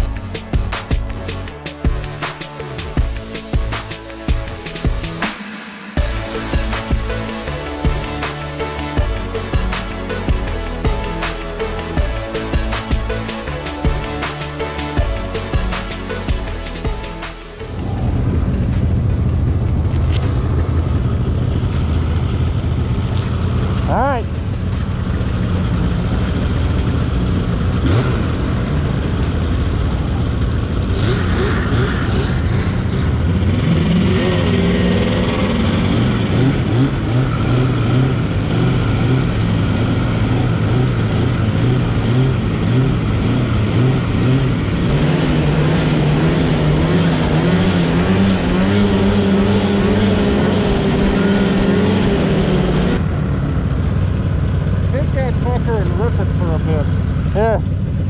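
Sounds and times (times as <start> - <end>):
snowmobile engines throttling up: 6.0 - 58.0.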